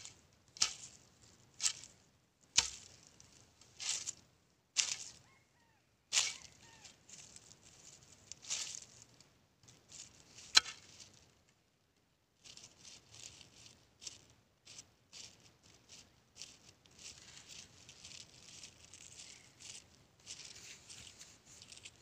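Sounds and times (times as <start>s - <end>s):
faint rustling and crackling: 0.0s - 5.4s, 6.1s - 22.0s.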